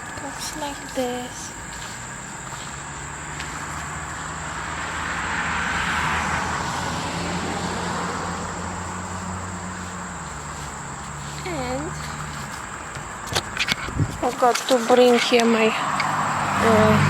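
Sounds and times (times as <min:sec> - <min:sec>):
steady low hum: 0:00.0 - 0:17.0
vehicle passing: 0:00.0 - 0:17.0.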